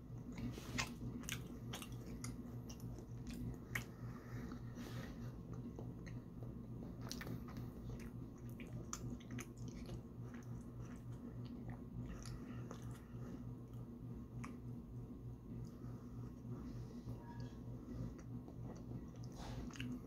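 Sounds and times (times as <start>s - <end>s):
low background hum: 0.0s - 20.0s
person chewing: 0.1s - 14.8s, 18.0s - 20.0s.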